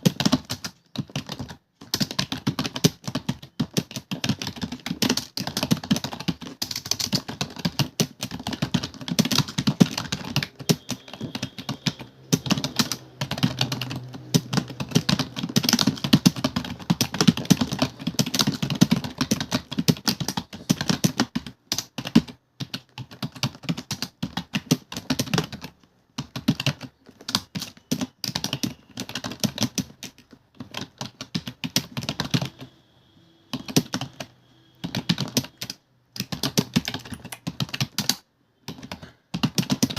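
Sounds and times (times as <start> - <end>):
typing on computer keyboard: 0.0 - 32.8, 33.5 - 39.9.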